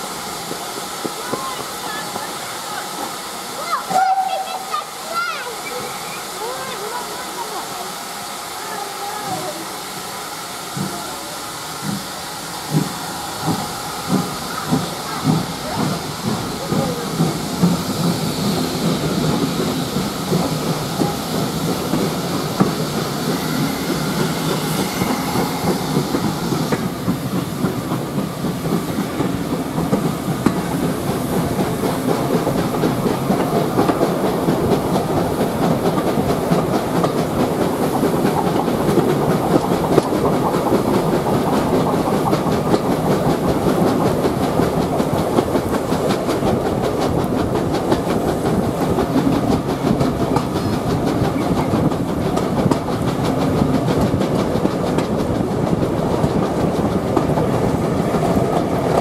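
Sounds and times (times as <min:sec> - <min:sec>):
steam hiss: 0:00.0 - 0:59.0
steam locomotive exhaust chuffs: 0:00.0 - 0:59.0
wheels clicking over rail joints: 0:00.4 - 0:07.9, 0:10.8 - 0:59.0.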